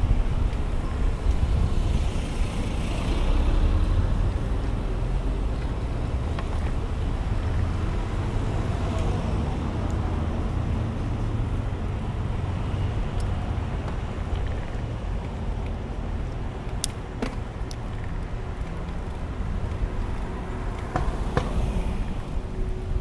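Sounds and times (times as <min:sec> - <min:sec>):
city bus: 0:00.0 - 0:23.0
street traffic rumble: 0:00.0 - 0:23.0.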